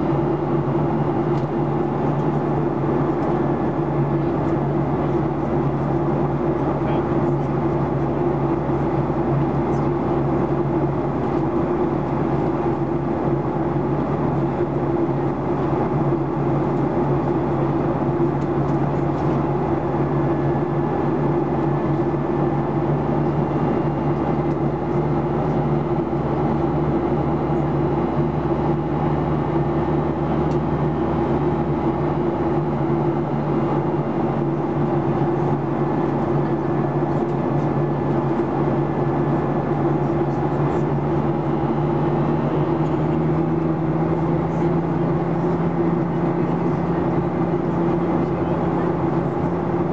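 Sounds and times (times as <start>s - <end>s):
airplane cabin roar: 0.0s - 49.9s
constant low hums: 0.0s - 49.9s.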